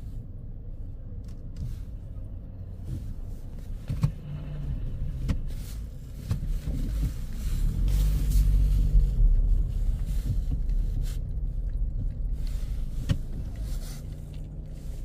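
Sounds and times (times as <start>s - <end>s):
low outdoor rumble: 0.0s - 15.0s
vehicle engine humming: 0.0s - 15.0s.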